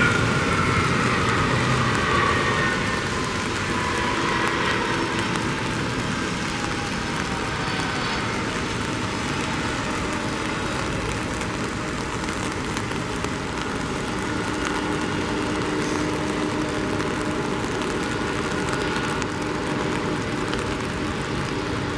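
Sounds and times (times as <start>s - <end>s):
jet engines running: 0.0s - 21.9s.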